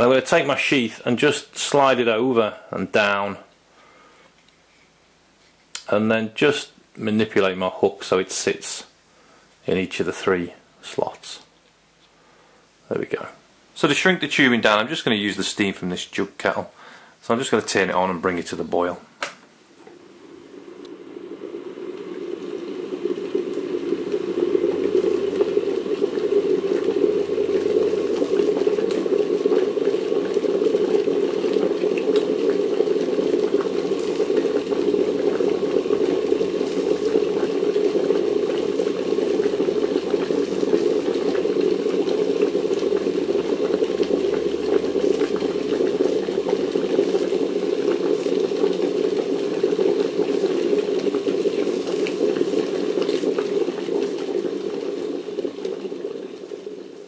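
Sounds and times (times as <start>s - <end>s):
electric kettle boiling: 0.0s - 4.3s, 5.8s - 11.4s, 12.2s - 57.0s.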